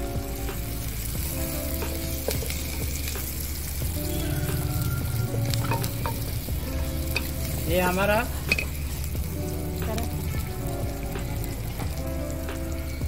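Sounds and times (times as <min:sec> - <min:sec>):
garlic and onion sizzling in oil: 0:00.0 - 0:13.0.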